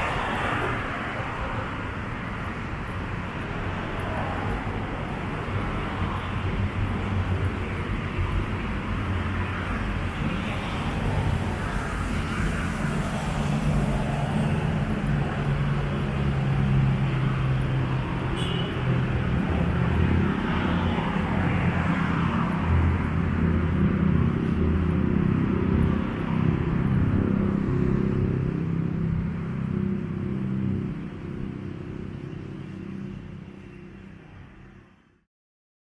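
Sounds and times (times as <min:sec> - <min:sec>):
cars passing with tyre hiss: 0:00.0 - 0:35.1.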